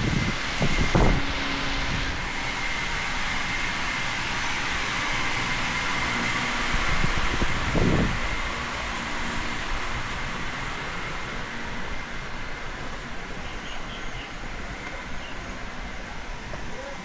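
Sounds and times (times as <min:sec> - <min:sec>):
street background hum and hiss: 0:00.0 - 0:17.0.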